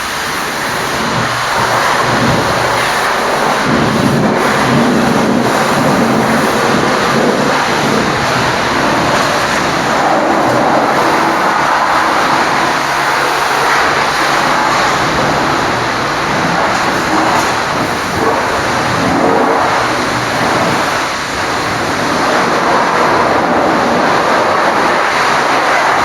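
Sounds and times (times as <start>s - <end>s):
pressure washer spraying water: 0.0s - 26.0s.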